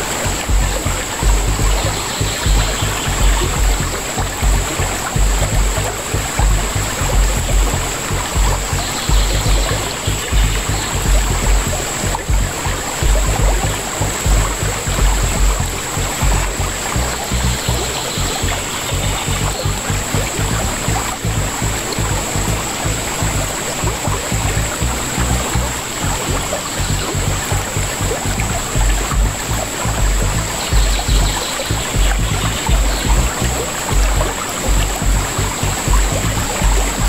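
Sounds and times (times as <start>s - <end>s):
river water rushing: 0.0s - 37.0s
wind buffeting microphone: 0.0s - 37.0s.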